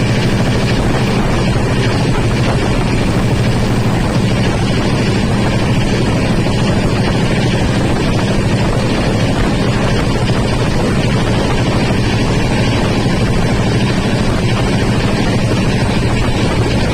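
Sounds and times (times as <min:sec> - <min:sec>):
train rumbling: 0:00.0 - 0:16.9.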